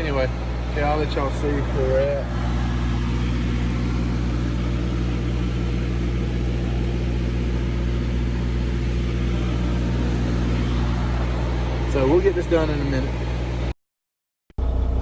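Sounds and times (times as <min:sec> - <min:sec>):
diesel truck engine idling: 0:00.0 - 0:13.7, 0:14.6 - 0:15.0.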